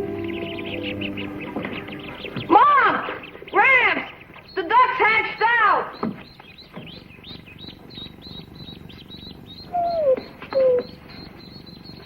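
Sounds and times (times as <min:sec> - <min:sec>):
ducklings peeping: 0:00.0 - 0:12.0.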